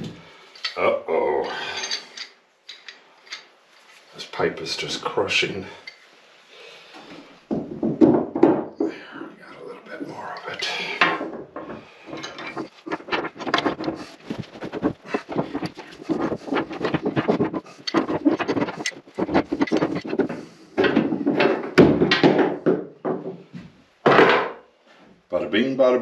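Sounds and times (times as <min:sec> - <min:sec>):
scraping and clattering of hand work: 0:00.0 - 0:25.2.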